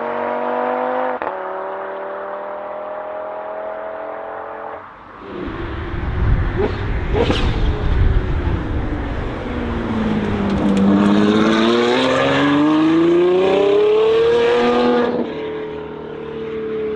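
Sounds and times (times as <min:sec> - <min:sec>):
sports car engine accelerating: 0:00.0 - 0:16.9.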